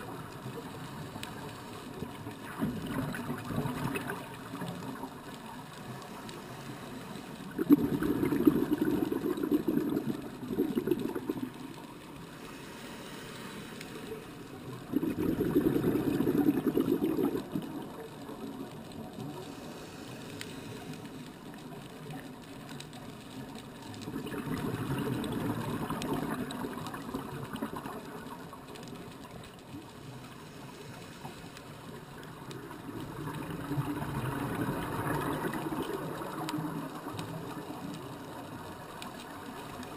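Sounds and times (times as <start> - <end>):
muffled underwater bubbling: 0.0 - 6.2, 7.1 - 13.0, 14.6 - 20.0, 20.6 - 39.9
low hiss: 0.0 - 39.9.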